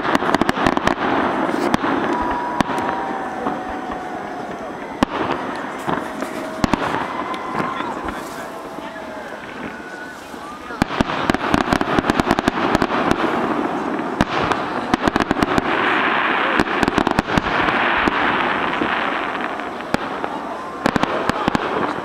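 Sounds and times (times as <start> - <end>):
fireworks bangs and pops: 0.0 - 22.0
fireworks crackling hiss: 0.0 - 22.0.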